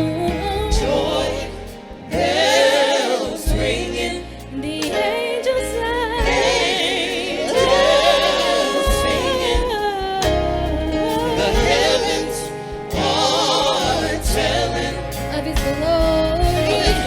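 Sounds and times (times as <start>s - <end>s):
bass line: 0.0s - 17.0s
voices singing gospel: 0.0s - 17.0s.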